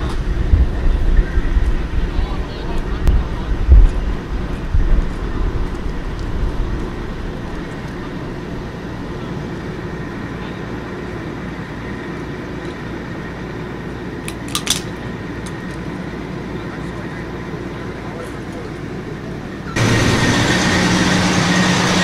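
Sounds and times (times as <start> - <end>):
faint steady whine: 0.0 - 22.0
vehicle engines idling: 0.0 - 22.0.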